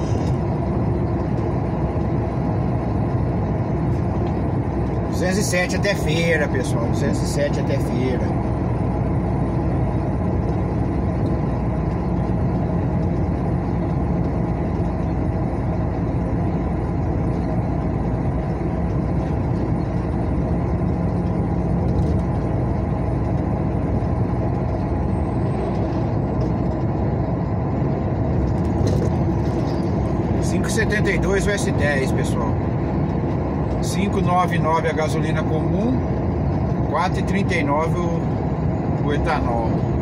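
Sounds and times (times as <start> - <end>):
vehicle engine and road noise: 0.0 - 40.0.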